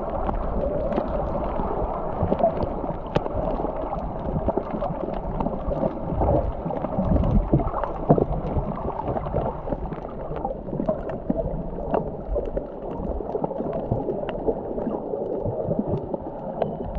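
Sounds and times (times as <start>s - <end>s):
muffled underwater water rush: 0.0s - 16.9s
small underwater clicks and crackles: 0.0s - 16.9s.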